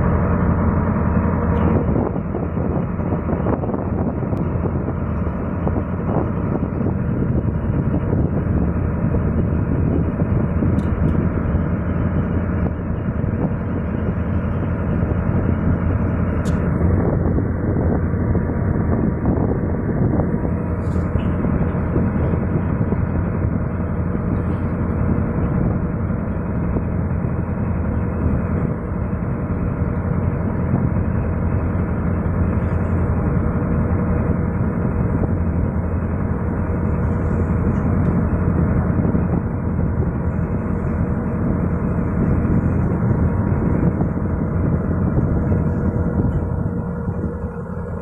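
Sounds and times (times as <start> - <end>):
boat engine droning: 0.0 - 48.0.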